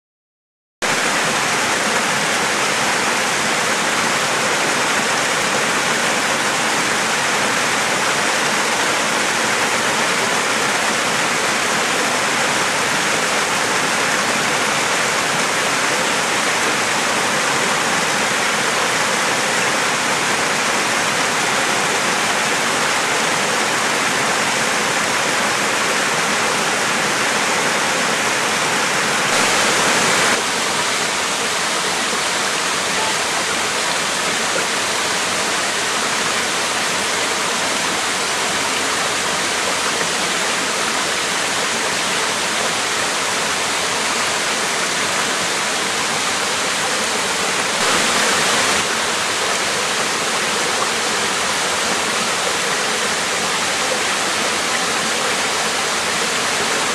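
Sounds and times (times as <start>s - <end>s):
waterfall rushing: 0.8s - 56.9s.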